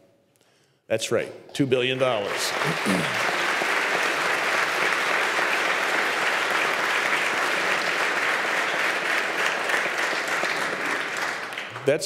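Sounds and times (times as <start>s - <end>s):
crowd applauding: 1.8s - 12.0s.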